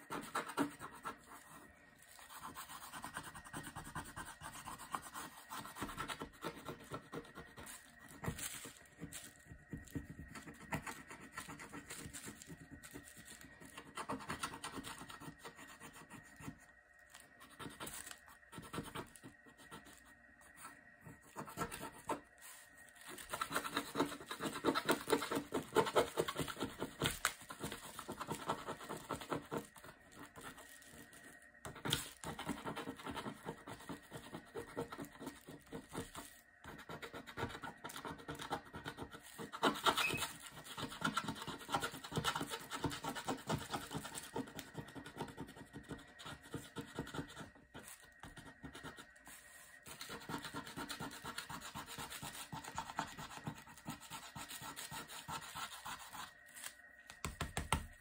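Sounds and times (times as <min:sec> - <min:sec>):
wooden stick scratching a board: 0:00.0 - 0:22.2, 0:23.0 - 0:57.8.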